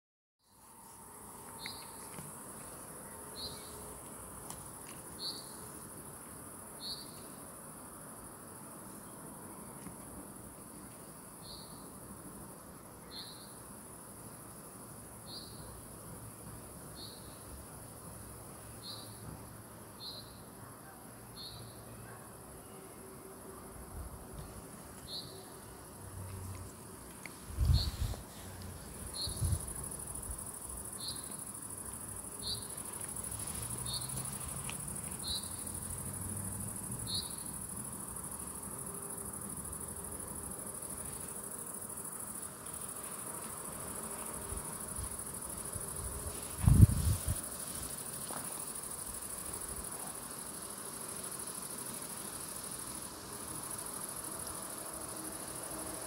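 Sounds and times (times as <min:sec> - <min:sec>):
crickets trilling: 0:00.4 - 0:56.0.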